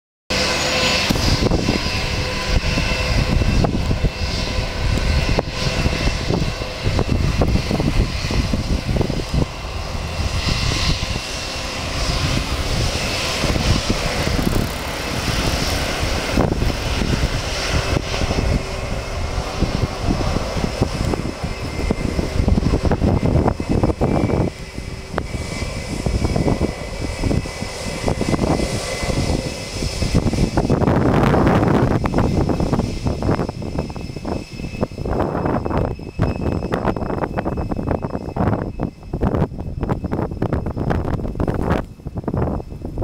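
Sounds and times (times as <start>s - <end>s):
jet engines rumbling: 0.3s - 43.0s.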